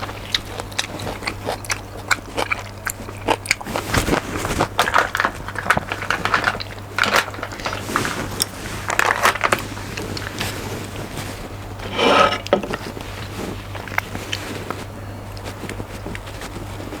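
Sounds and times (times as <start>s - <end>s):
low electrical hum: 0.0s - 17.0s
noodles being chewed: 0.0s - 17.0s.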